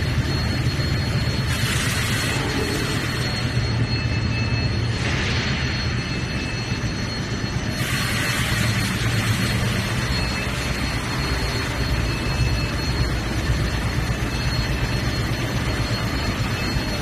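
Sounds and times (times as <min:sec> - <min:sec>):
machinery low hum: 0:00.0 - 0:17.0
thin high whine: 0:00.0 - 0:17.0.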